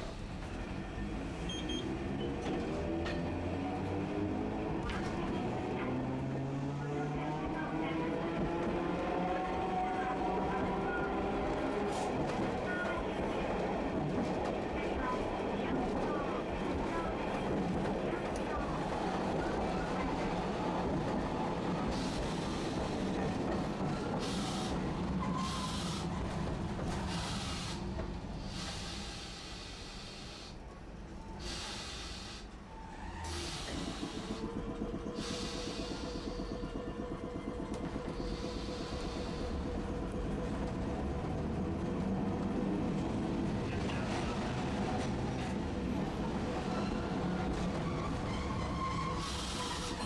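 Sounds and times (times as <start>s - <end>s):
streetcar rumbling on track: 0.0s - 50.0s.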